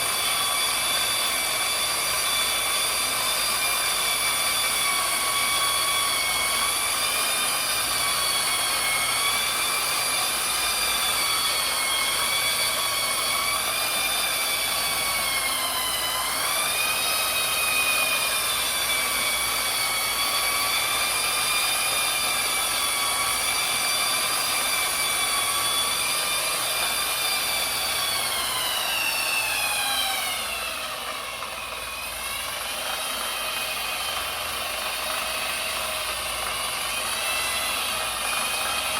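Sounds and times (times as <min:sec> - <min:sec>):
electric motor whining: 0:00.0 - 0:38.9.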